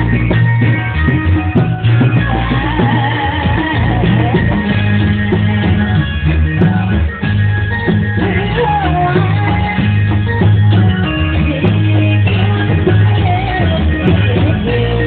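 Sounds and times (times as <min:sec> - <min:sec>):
heavy drums beating: 0:00.0 - 0:15.0
live troupe music: 0:00.0 - 0:15.0.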